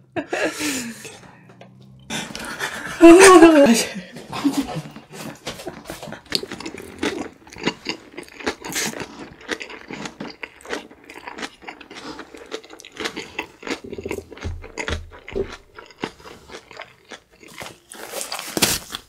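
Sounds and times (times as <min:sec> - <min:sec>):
chewing food: 0:00.6 - 0:03.0, 0:04.2 - 0:19.0.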